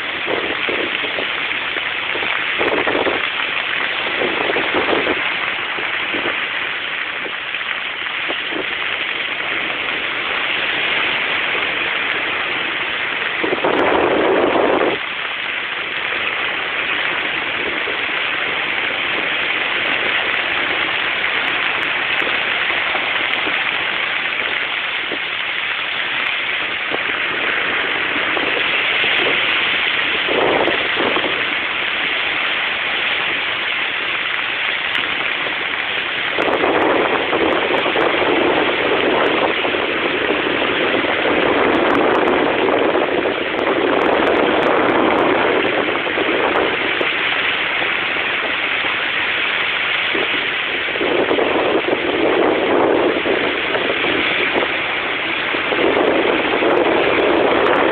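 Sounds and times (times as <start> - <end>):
sea waves breaking: 0.0 - 57.9.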